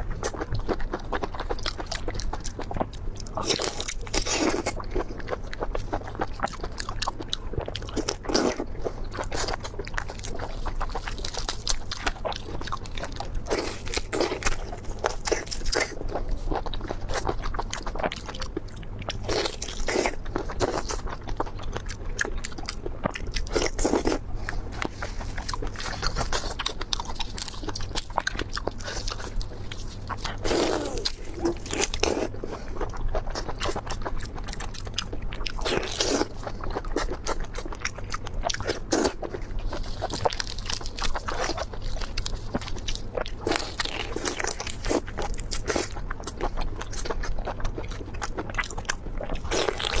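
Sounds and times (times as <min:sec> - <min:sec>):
crunching and chewing prawns: 0:00.0 - 0:50.0.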